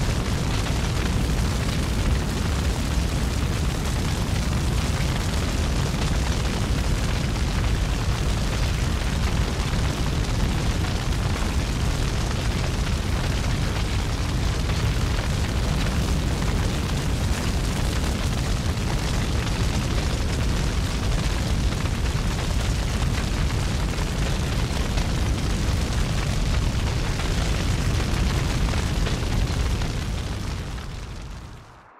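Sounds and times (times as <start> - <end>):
continuous rumbling roar: 0.0 - 31.9.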